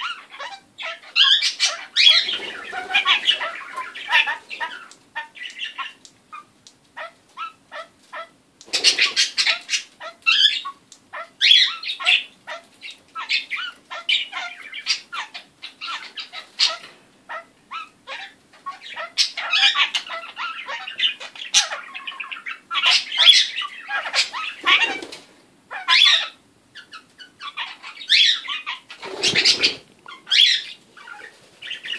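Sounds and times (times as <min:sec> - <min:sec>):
parakeet chattering and squawking: 0:00.0 - 0:31.9.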